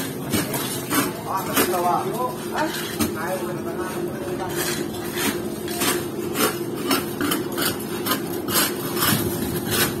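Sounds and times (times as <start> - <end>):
scraper scraping boat hull: 0.0 - 10.0
steady low hum: 0.0 - 10.0.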